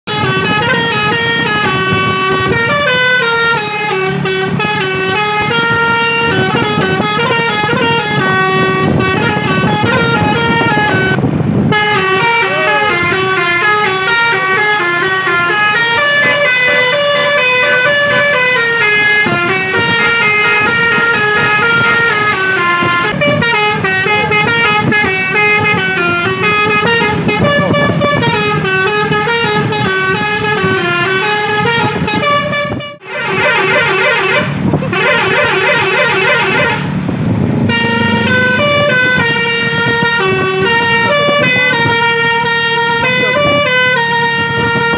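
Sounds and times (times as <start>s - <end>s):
low vehicle noise: 0.0s - 44.9s
multi-tone air horn melody: 0.1s - 44.9s.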